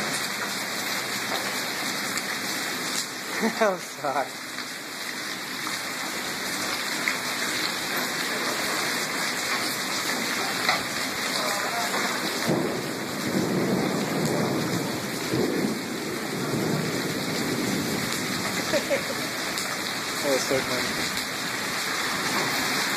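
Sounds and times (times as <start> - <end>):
heavy rain on pavement: 0.0 - 22.9.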